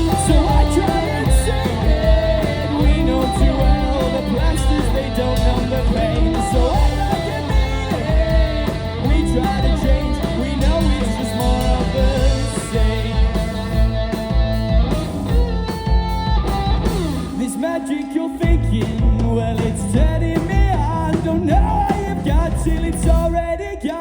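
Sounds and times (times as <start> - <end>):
live rock band playing: 0.0 - 23.6.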